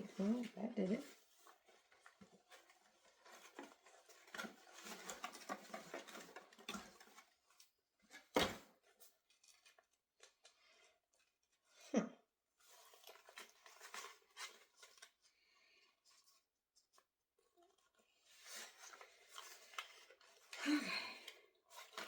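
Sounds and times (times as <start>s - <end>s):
cardboard and plastic rustling: 0.0s - 10.6s, 12.6s - 15.4s, 16.0s - 22.0s.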